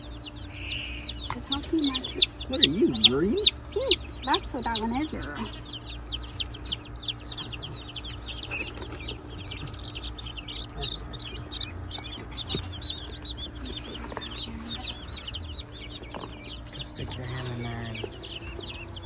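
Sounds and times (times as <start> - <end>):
baby chicks peeping: 0.0 - 19.0
steady low hum: 0.0 - 19.0.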